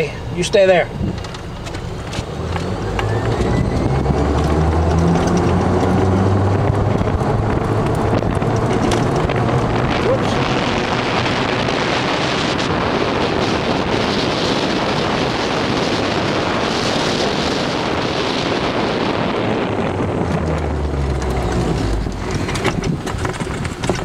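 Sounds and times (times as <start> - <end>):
wind rushing on microphone: 0.0 - 24.0
electric cart motor hum: 1.1 - 24.0.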